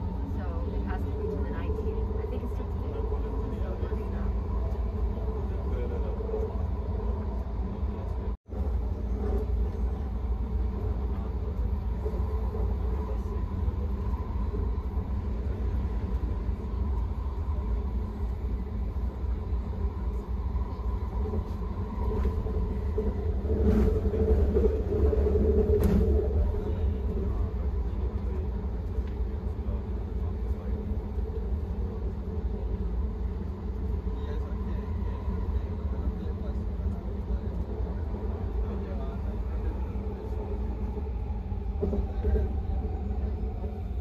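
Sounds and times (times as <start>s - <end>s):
train car rumbling on track: 0.0s - 44.0s.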